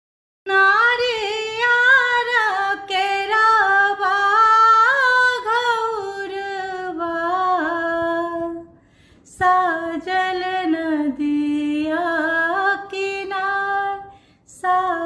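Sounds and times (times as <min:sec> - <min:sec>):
woman singing unaccompanied: 0:00.5 - 0:15.0.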